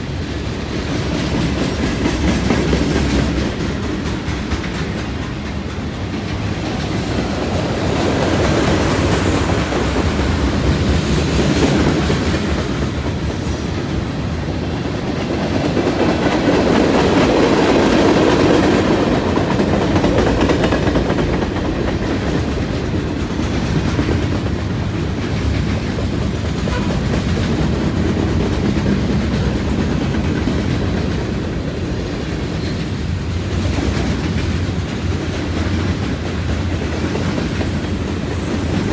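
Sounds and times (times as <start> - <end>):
train wheels clattering on track: 0.0 - 38.9.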